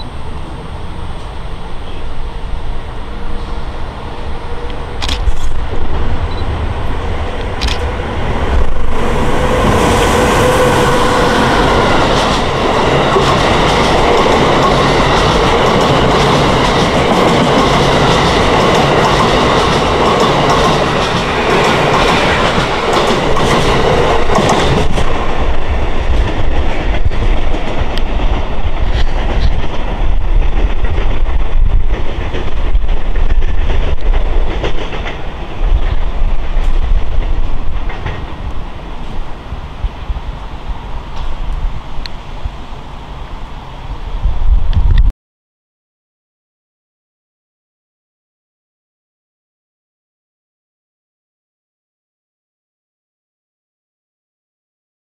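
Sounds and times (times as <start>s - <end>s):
train wheels rumbling on rail: 0.0s - 45.1s.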